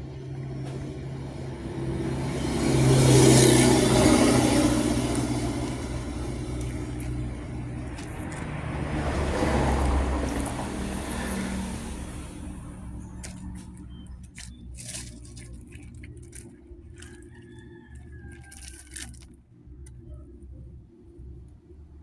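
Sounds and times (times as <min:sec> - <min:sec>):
vehicle passing by: 0:00.0 - 0:19.1.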